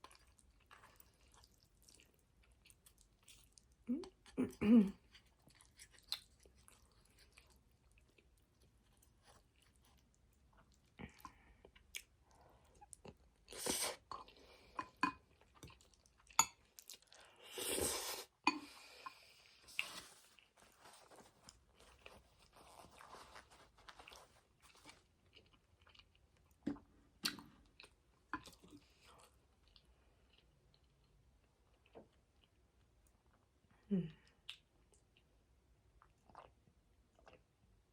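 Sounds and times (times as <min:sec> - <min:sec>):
chewing and wet mouth sounds: 0:00.0 - 0:37.9.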